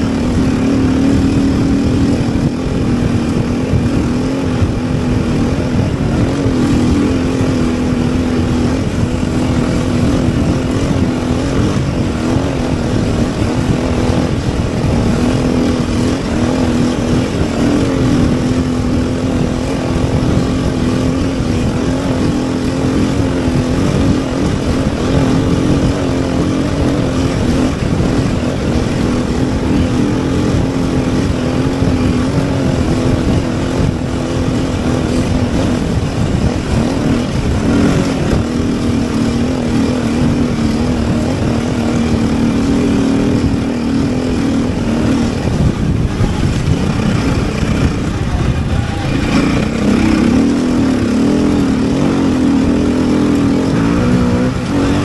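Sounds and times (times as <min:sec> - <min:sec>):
constant rushing noise: 0:00.0 - 0:55.0
vehicle engine driving: 0:00.0 - 0:55.0.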